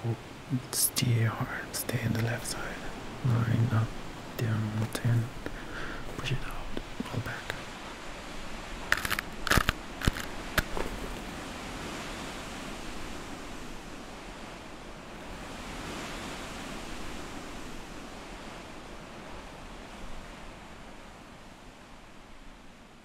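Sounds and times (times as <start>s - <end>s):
steady rushing noise: 0.0s - 20.2s.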